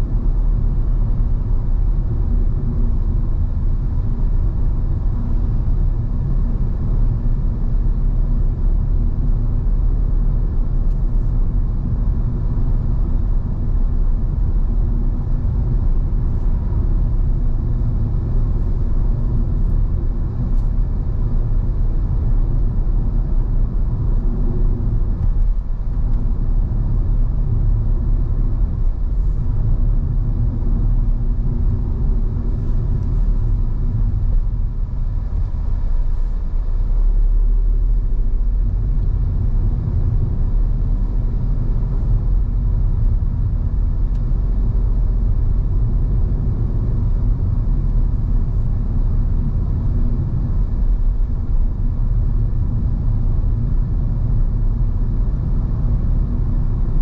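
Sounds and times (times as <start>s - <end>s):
car engine rumble: 0.0s - 57.0s
road noise: 9.4s - 56.9s.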